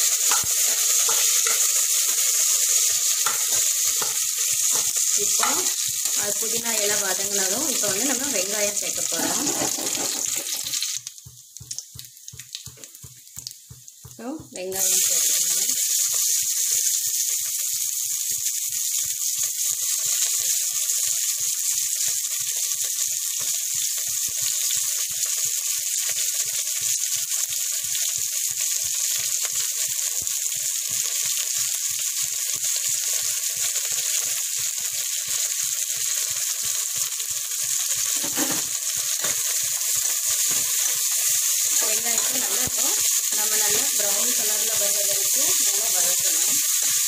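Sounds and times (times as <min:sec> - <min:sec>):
onions sizzling in hot oil: 0:00.0 - 0:47.0.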